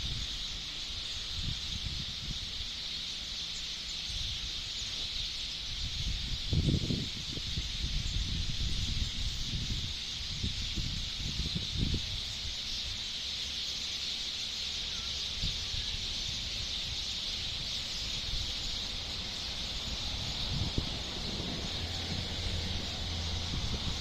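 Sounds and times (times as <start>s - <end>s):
low wind rumble on microphone: 0.0s - 2.7s, 4.1s - 13.0s, 15.2s - 24.0s
birds chirping in chorus: 0.0s - 24.0s.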